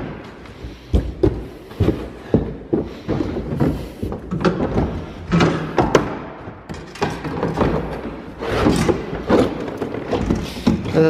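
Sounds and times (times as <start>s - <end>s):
knocks and thumps: 0.0s - 11.0s.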